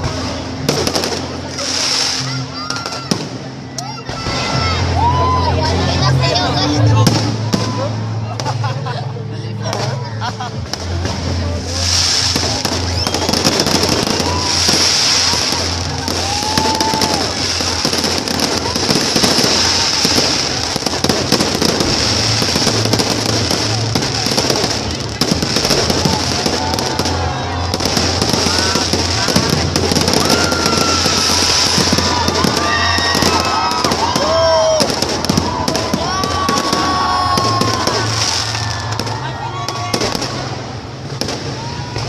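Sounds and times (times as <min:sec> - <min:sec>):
fireworks crackling and banging: 0:00.0 - 0:09.0, 0:09.6 - 0:42.0.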